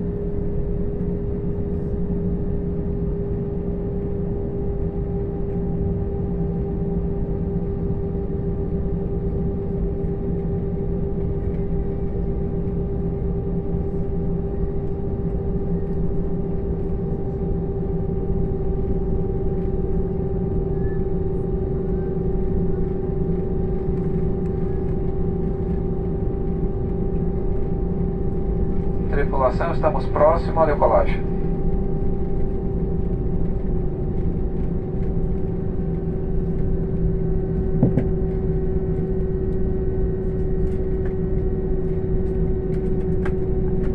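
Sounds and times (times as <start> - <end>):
airliner engines humming: 0.0 - 43.9.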